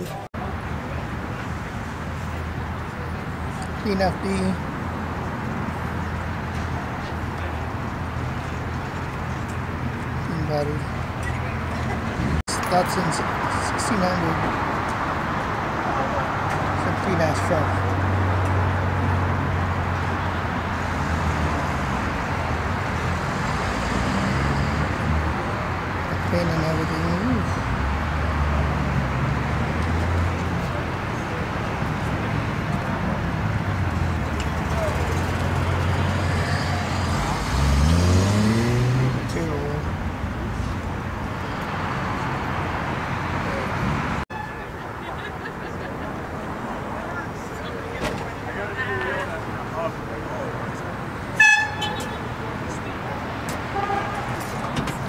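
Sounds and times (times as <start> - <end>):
low rumble of vehicle noise: 0.0 - 55.0.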